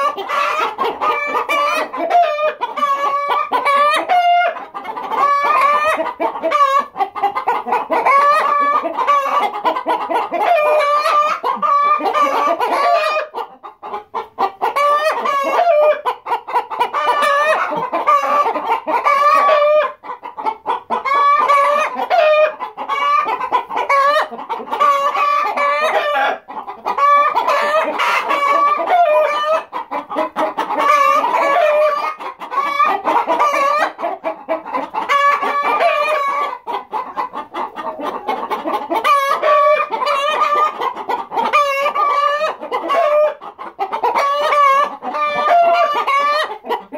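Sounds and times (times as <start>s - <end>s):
hens and rooster clucking: 0.0s - 46.9s.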